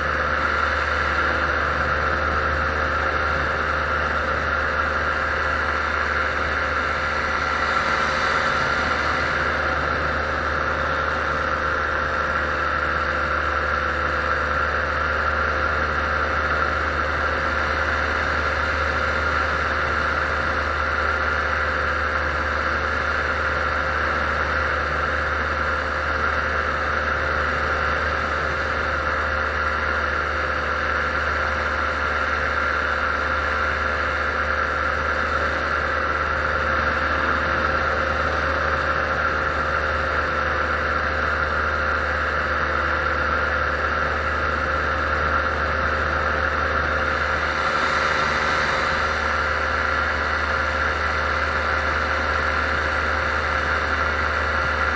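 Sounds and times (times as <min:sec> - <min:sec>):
paramotor engine droning: 0:00.0 - 0:54.9.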